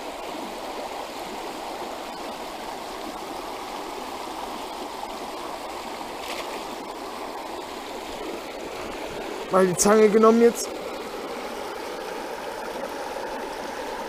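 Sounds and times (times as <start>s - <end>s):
stream rushing over stones: 0.0s - 14.0s.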